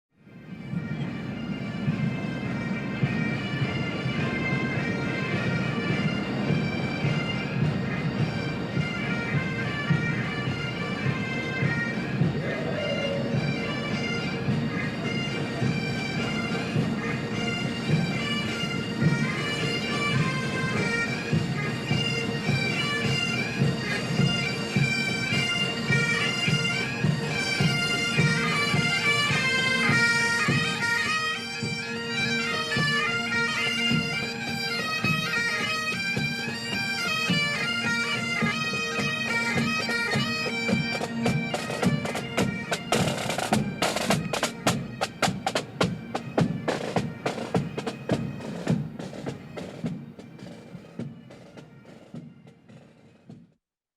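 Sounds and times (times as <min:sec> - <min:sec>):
bagpipes playing melody: 0:00.2 - 0:53.2
drums beating: 0:01.8 - 0:53.6.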